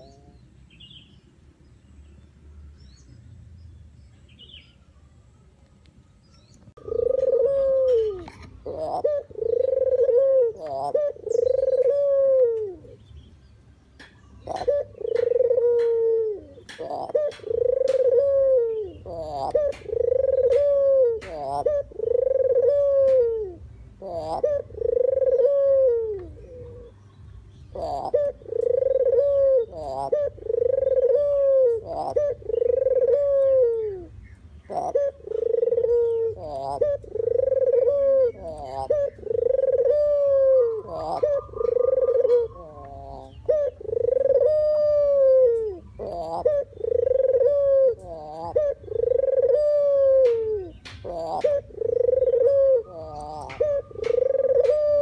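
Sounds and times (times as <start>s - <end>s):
dove cooing: 0.0s - 0.4s, 6.8s - 13.2s, 14.0s - 55.0s.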